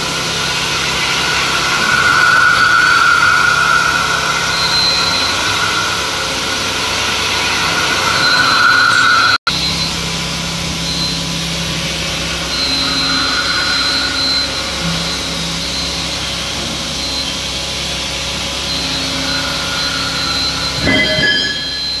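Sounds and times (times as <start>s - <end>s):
faint machine whining: 0.0s - 22.0s
machinery hum and hiss: 0.0s - 22.0s.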